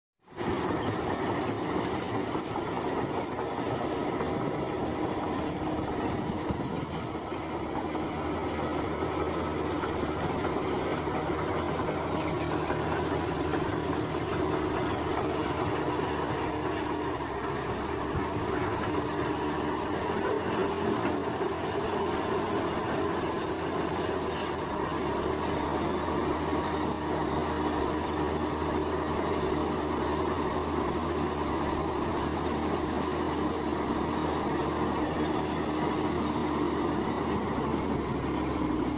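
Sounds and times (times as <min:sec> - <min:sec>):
heavy diesel machinery running: 0:00.2 - 0:38.9
insects chirping trill: 0:00.8 - 0:37.5.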